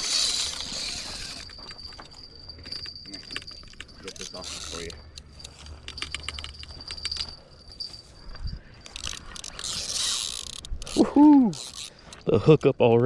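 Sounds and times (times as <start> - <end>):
fishing reel clicks and rattles: 0.0 - 7.4, 8.8 - 12.7.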